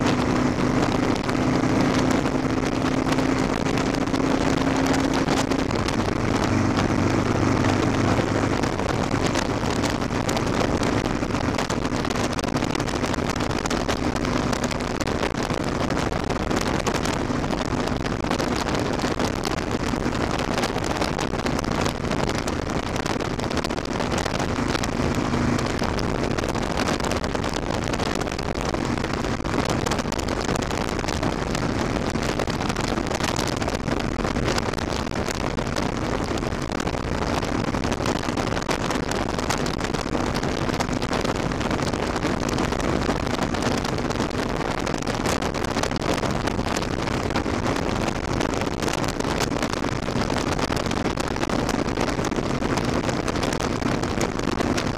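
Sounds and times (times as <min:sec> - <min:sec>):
motorcycle engine running: 0:00.0 - 0:44.6
wind noise on microphone: 0:00.0 - 0:54.9.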